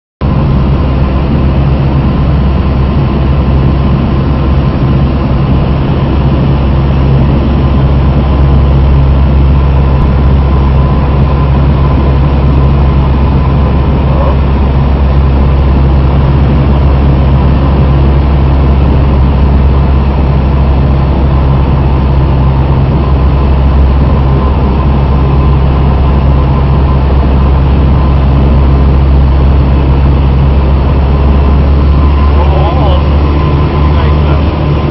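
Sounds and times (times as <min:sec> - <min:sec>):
propeller plane engine drone: 0:00.2 - 0:34.9.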